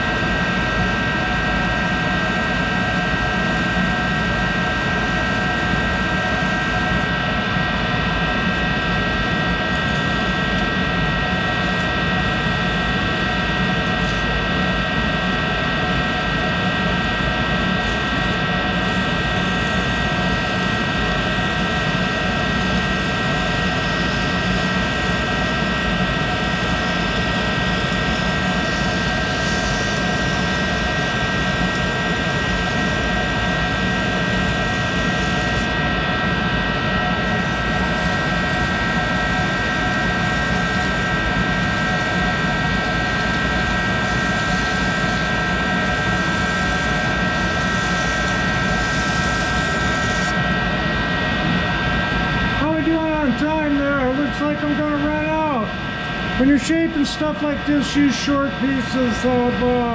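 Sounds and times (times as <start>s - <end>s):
lathe motor hum: 0.0s - 7.5s, 8.2s - 59.9s.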